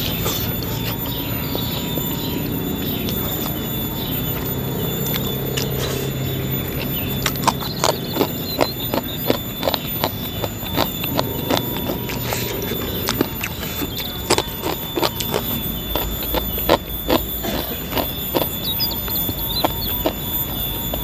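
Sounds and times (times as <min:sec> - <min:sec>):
low steady hum: 0:00.0 - 0:21.0
person chewing crunchy food: 0:00.0 - 0:21.0.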